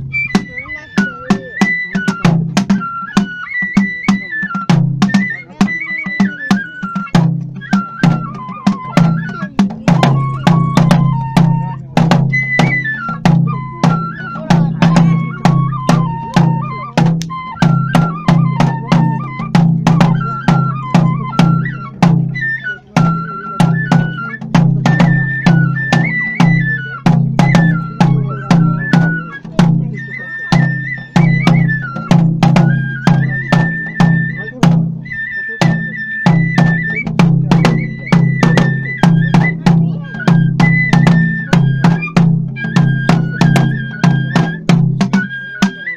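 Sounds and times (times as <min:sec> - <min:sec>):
drum beats: 0:00.0 - 0:45.9
high melody: 0:00.0 - 0:45.9.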